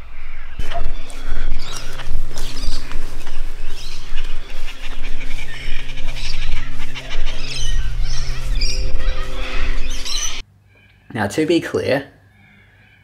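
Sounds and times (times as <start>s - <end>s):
cockatoos calling harshly: 0.0s - 10.4s.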